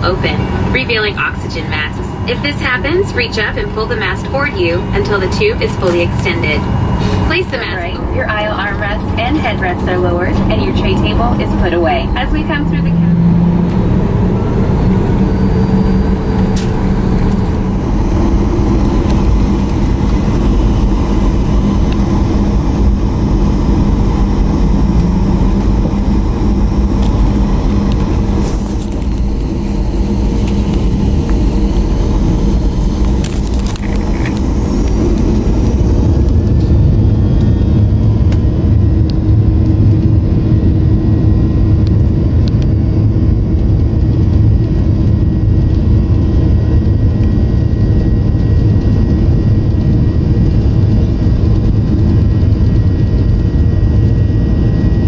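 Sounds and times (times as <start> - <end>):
aircraft engine rumble: 0.0 - 55.0.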